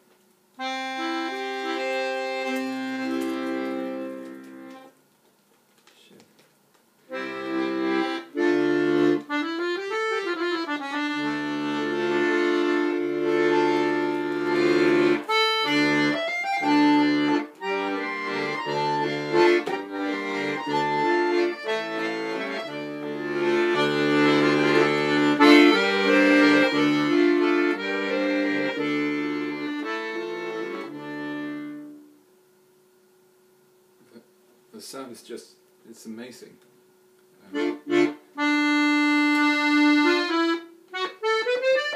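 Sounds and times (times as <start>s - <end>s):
button accordion playing chords: 0.6s - 4.9s, 7.1s - 32.3s, 37.4s - 41.9s.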